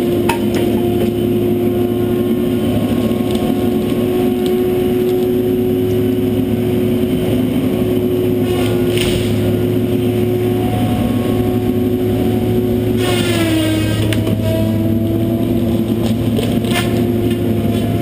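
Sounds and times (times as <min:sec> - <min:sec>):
diesel engine and hydraulics hum: 0:00.0 - 0:18.0.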